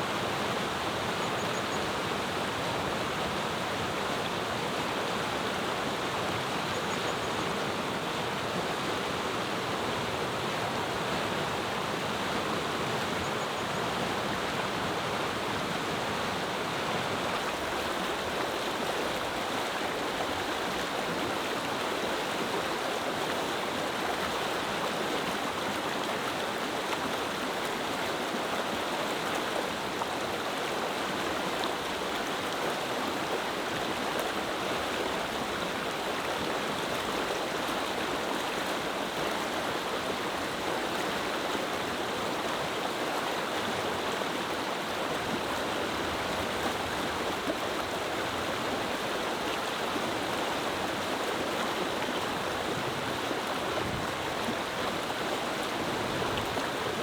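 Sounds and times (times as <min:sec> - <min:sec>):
river flowing over rocks: 0:00.0 - 0:57.0.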